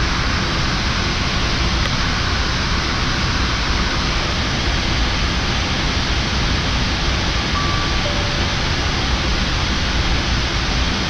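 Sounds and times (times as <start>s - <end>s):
air conditioning hiss: 0.0s - 11.0s.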